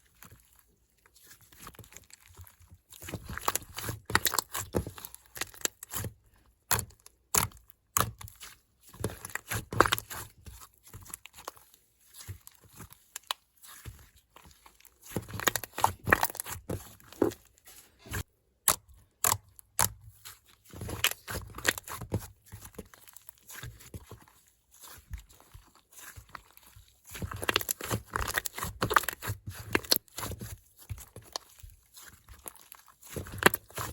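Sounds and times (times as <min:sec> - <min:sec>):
slime crackling and popping: 0:01.1 - 0:14.0, 0:15.0 - 0:17.4, 0:20.9 - 0:24.2, 0:24.9 - 0:33.9.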